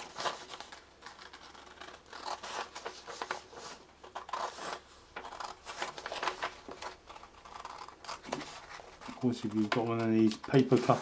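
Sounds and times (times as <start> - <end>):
paper being cut: 0.0 - 11.0.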